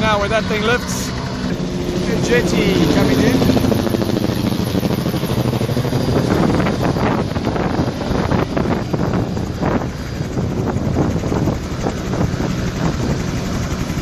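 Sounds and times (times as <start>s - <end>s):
helicopter turbine and rotor: 0.0s - 14.0s
wind buffeting microphone: 0.0s - 14.0s.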